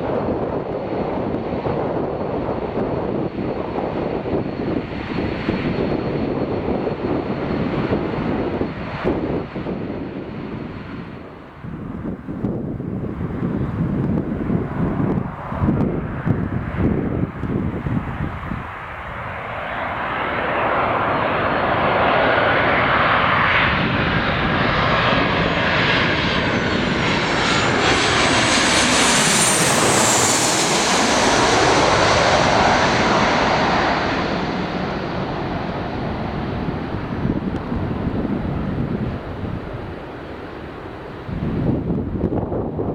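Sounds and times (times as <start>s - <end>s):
airliner engines roaring overhead: 0.0s - 42.9s.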